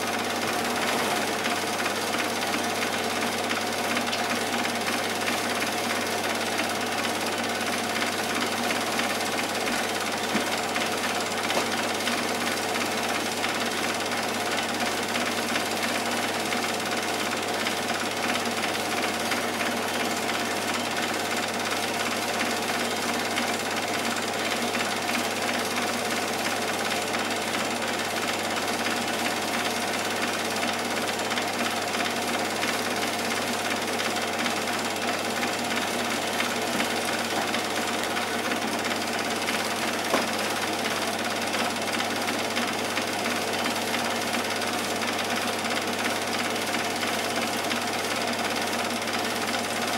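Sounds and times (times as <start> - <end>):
film projector clattering: 0.0 - 49.9.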